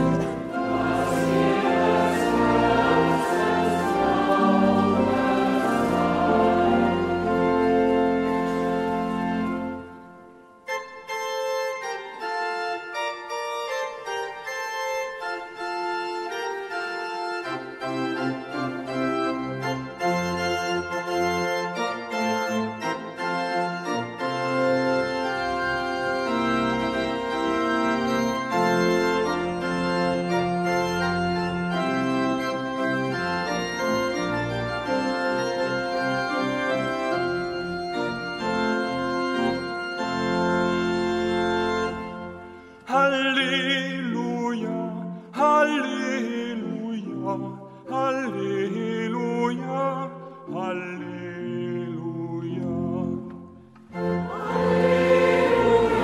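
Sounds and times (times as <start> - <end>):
church organ playing chords: 0.0 - 56.0.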